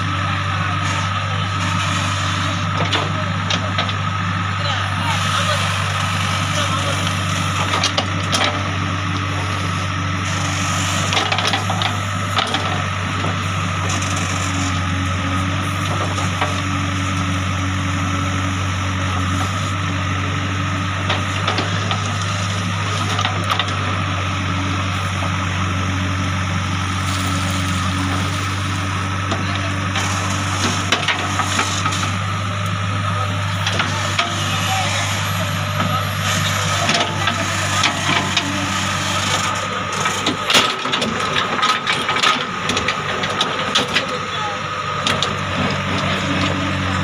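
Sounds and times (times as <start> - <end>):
diesel engine running under load: 0.0 - 47.0.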